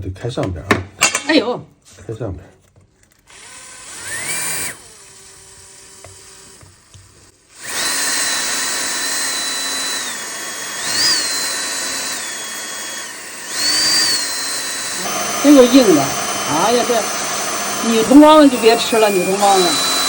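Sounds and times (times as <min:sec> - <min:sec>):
electric drill grinding eggshell: 0:03.1 - 0:20.0.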